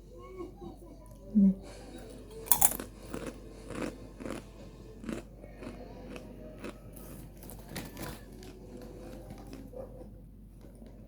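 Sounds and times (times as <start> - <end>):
chewing and crunching food: 1.7 - 11.0.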